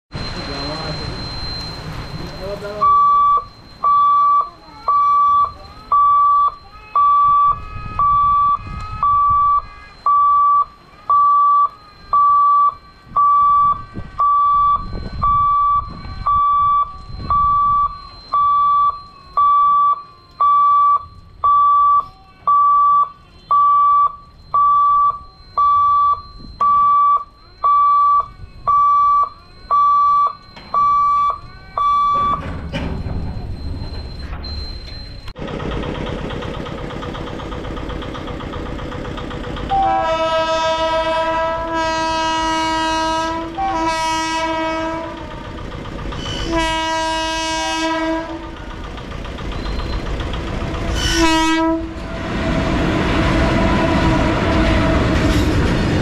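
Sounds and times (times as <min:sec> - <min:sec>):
crossing warning hooter beeping: 0:00.1 - 0:56.0.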